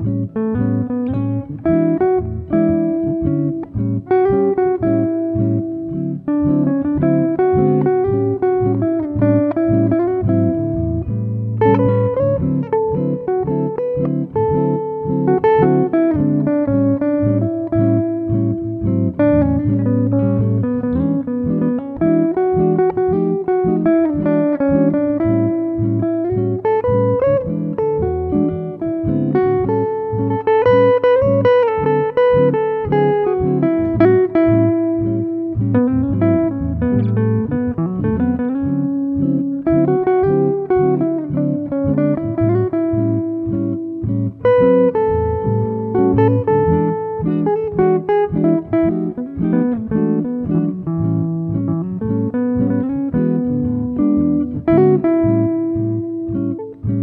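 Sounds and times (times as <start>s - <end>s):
low bass line: 0.0s - 57.0s
plucked guitar melody: 0.0s - 57.0s.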